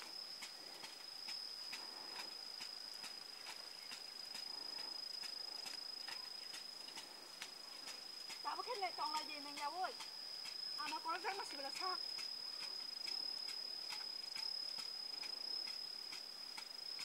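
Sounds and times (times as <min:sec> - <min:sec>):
faint regular ticks: 0:00.0 - 0:17.0
high-pitched insect drone: 0:00.0 - 0:17.0.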